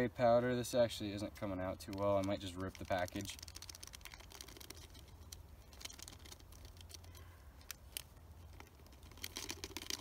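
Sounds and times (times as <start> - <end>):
packet crinkling: 1.8 - 10.0.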